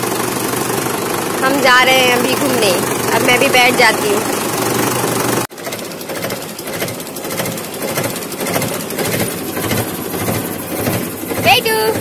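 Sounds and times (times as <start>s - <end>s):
diesel tractor engine clattering: 0.0s - 12.0s.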